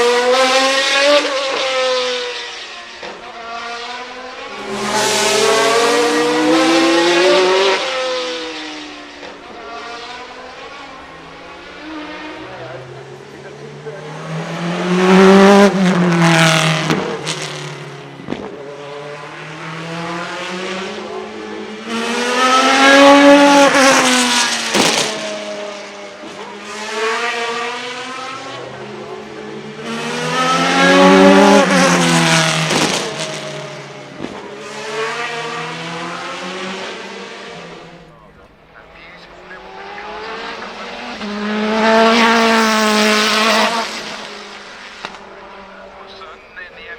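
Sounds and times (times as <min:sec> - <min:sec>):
race car engine accelerating: 0:00.0 - 0:46.9.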